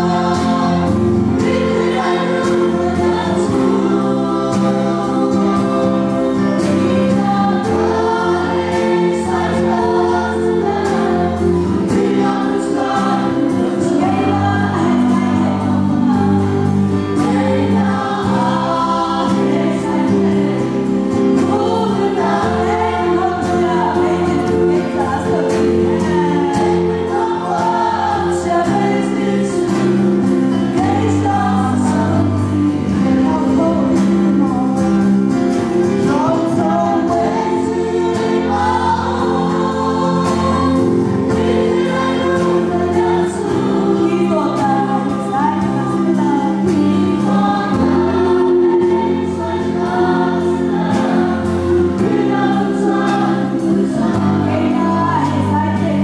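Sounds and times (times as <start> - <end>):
choir singing gospel song: 0.0 - 56.0
sustained instrumental chords: 0.0 - 56.0.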